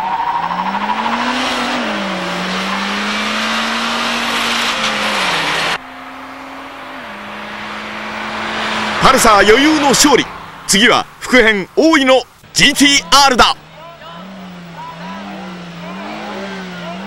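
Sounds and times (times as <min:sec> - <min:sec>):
cars accelerating hard: 0:00.0 - 0:10.8, 0:13.6 - 0:17.0
road noise: 0:00.0 - 0:17.0.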